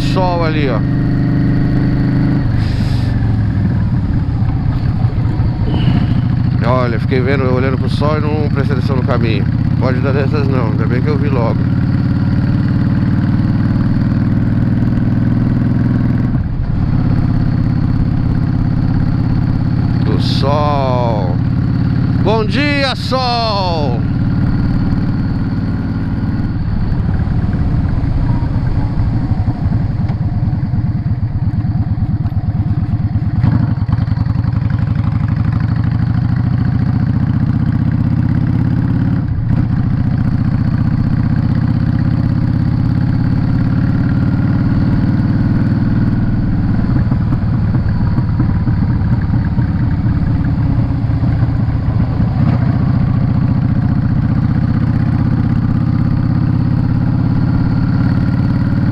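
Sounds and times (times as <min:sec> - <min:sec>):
motorcycle engine cruising: 0:00.0 - 0:58.9.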